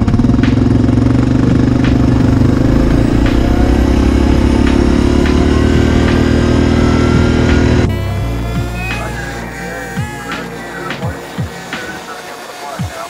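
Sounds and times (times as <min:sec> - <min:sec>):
atv engine running on gravel: 0:00.0 - 0:12.1.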